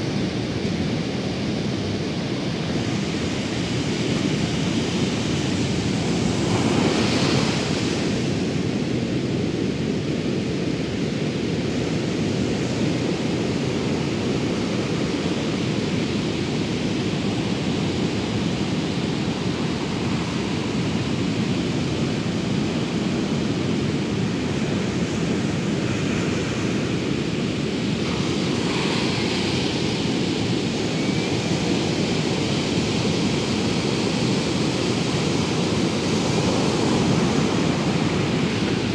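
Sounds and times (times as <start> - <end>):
sea surf rushing: 0.0 - 38.9
wind on microphone: 0.0 - 38.9.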